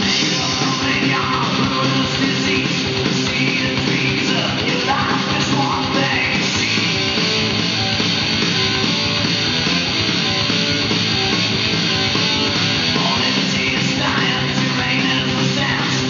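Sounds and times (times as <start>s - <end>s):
rock music with electric guitar: 0.0s - 16.0s.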